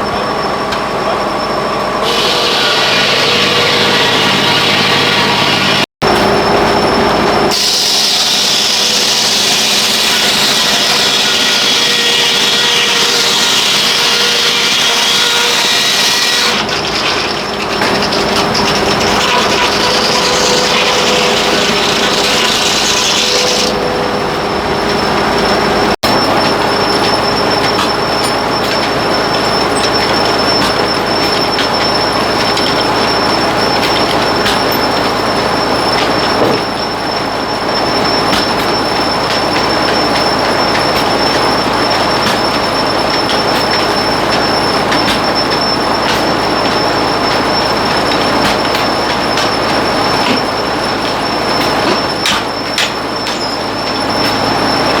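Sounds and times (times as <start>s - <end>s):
loud machinery running: 0.0s - 55.0s.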